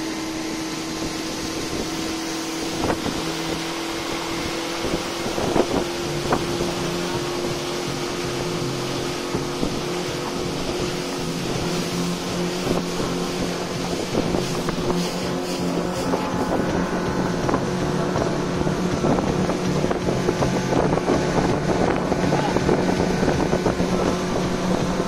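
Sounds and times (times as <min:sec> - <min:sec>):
motorboat engine drone: 0:00.0 - 0:25.0
wind buffeting microphone: 0:00.0 - 0:25.0.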